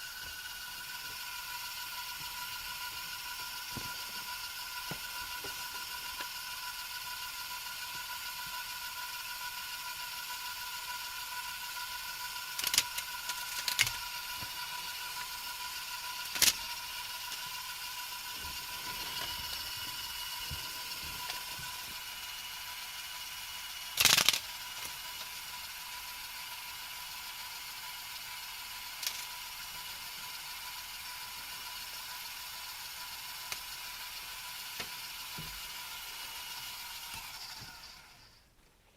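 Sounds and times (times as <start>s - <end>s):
small electric motor whine: 0.0s - 38.5s.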